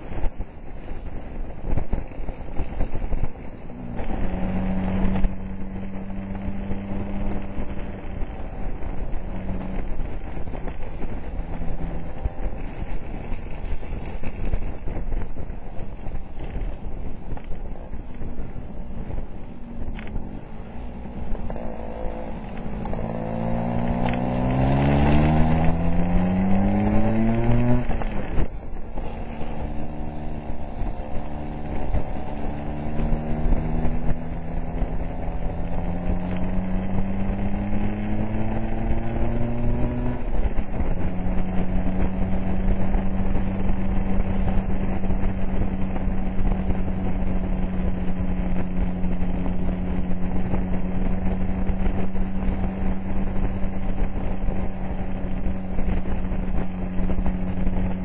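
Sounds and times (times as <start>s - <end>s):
scooter engine accelerating: 0.0s - 58.0s.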